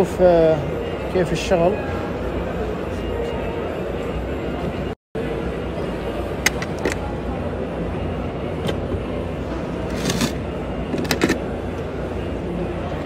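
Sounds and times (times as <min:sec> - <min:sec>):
exhibition hall hum: 0:00.0 - 0:13.0.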